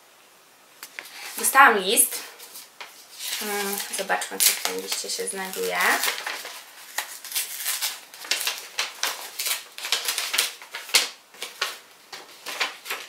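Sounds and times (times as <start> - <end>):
paper crackling and rustling: 0.8 - 13.0.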